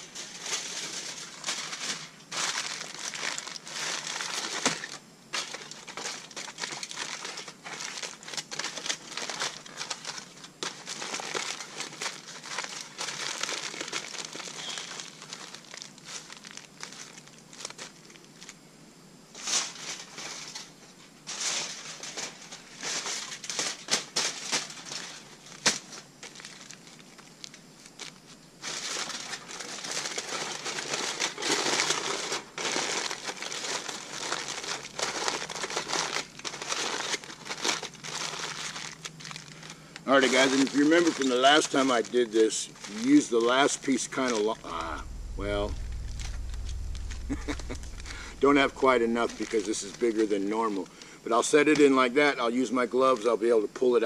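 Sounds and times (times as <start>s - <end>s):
aluminium foil crinkling: 0.0s - 18.6s, 19.4s - 54.0s.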